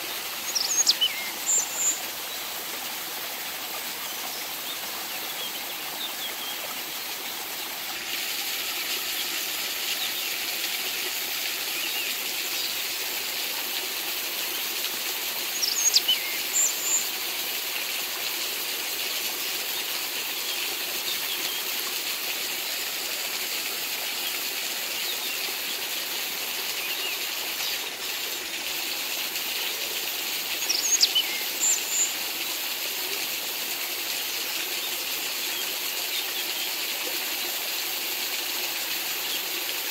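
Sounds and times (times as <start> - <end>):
water pouring from a pipe: 0.0 - 39.9.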